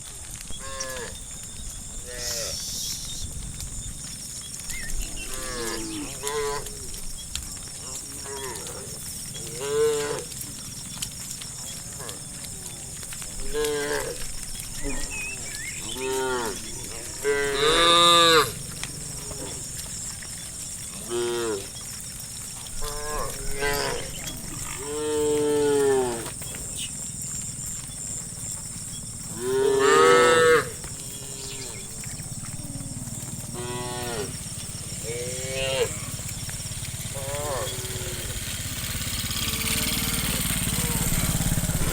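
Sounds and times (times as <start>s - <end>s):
cows mooing: 0.6s - 2.7s, 4.8s - 41.9s.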